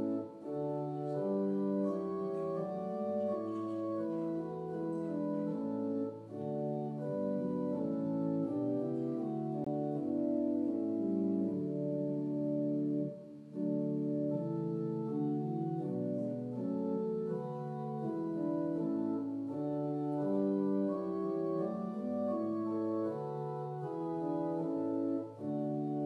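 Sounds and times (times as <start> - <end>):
organ playing chords: 0.0 - 26.0.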